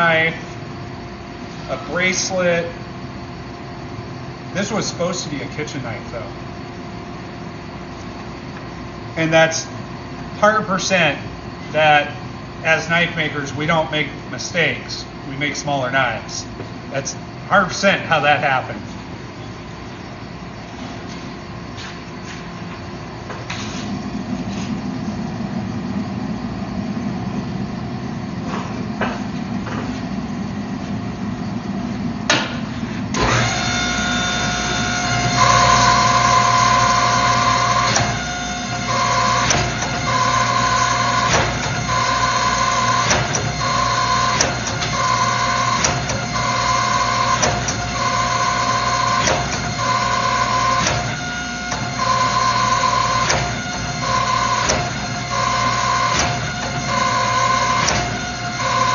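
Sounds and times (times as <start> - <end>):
hydraulic press humming: 0.0 - 58.9
press strokes with high whine: 0.0 - 58.9.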